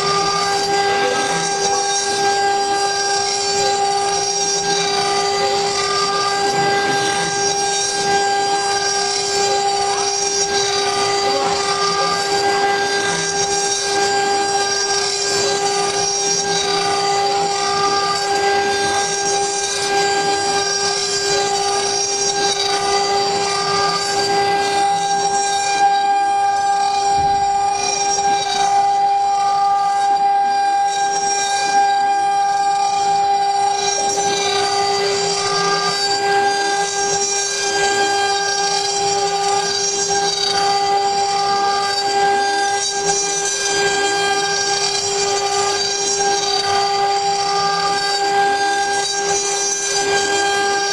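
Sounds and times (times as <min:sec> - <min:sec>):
cutter hissing through wood: 0:00.0 - 0:50.9
wood router spindle whine: 0:00.0 - 0:50.9.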